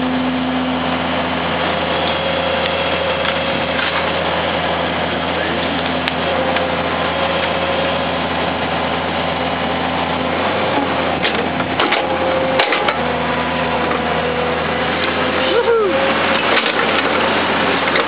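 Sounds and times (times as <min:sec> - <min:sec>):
excavator engine running: 0:00.0 - 0:18.0
steady whine: 0:00.0 - 0:18.0.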